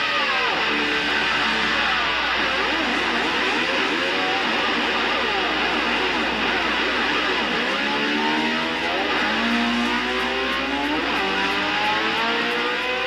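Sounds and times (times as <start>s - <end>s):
electric slide guitar rock music: 0.0s - 13.0s.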